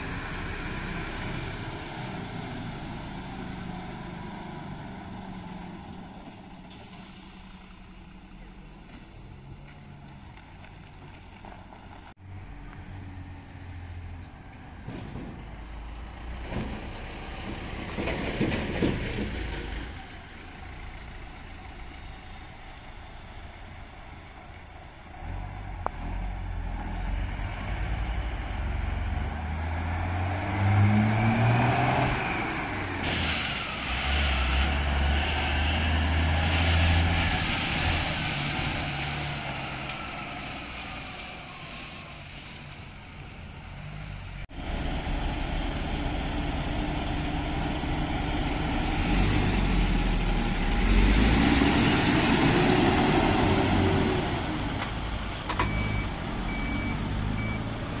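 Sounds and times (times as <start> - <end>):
car passing: 0.0 - 58.0
diesel trucks driving past: 0.0 - 58.0.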